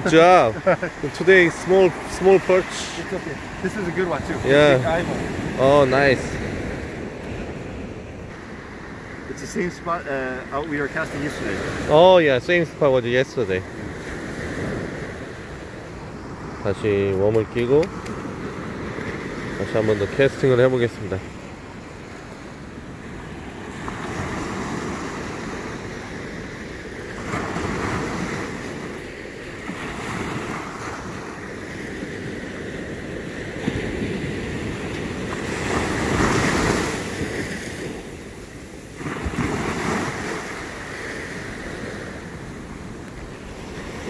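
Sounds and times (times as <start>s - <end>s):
ocean surf breaking on beach: 0.0s - 44.0s.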